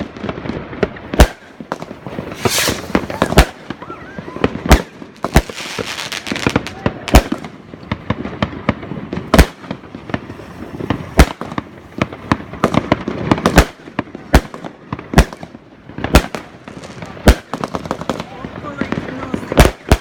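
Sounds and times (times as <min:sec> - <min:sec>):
fireworks crackling pops: 0:00.0 - 0:20.0
fireworks loud bangs: 0:00.0 - 0:20.0.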